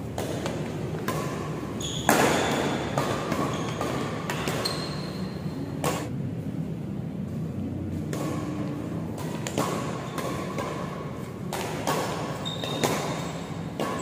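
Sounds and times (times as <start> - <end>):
rackets hitting shuttlecock: 0.0 - 6.1, 7.9 - 14.0
steady low hum: 0.0 - 14.0.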